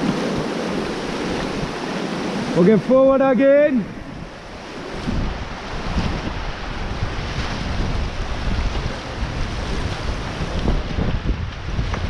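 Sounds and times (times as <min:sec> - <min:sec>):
rushing whitewater: 0:00.0 - 0:12.0
wind buffeting microphone: 0:00.0 - 0:12.0.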